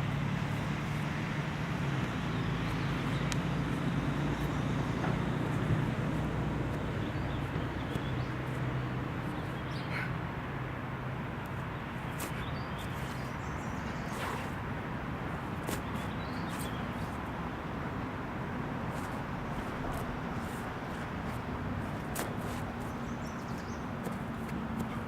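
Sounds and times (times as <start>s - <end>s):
low hum of distant traffic: 0.0s - 25.0s.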